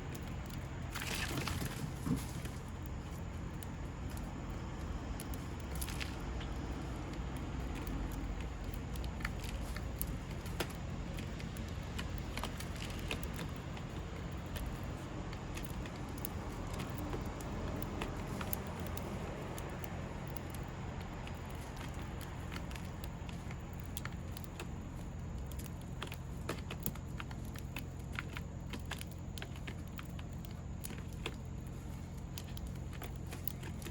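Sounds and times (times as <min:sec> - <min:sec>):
light clicks and ticks: 0:00.0 - 0:01.3, 0:02.2 - 0:33.9
low outdoor rumble: 0:00.0 - 0:33.9.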